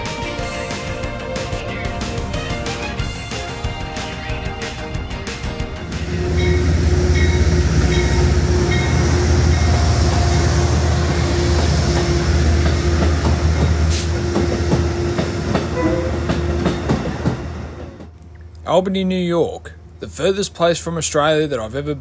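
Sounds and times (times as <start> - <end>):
train running on rails: 0.0 - 18.2.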